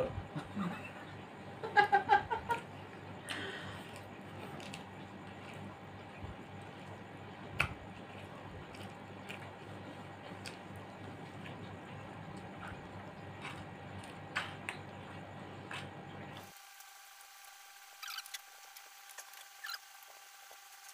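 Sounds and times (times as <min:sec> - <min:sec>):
man eating: 0:02.4 - 0:16.5, 0:18.0 - 0:20.9.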